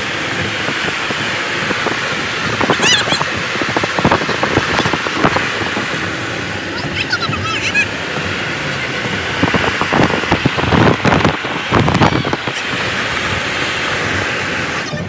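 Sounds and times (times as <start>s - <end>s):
wind and road noise in car: 0.0s - 15.0s
wind buffeting on microphone: 0.0s - 15.0s.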